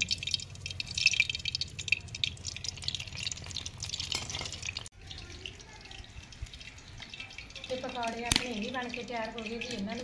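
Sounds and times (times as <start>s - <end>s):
hot oil sizzling and crackling: 0.0s - 10.0s.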